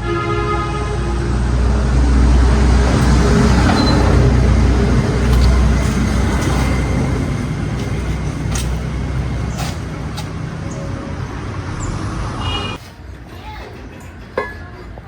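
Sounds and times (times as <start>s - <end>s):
engine humming: 0.4s - 12.8s.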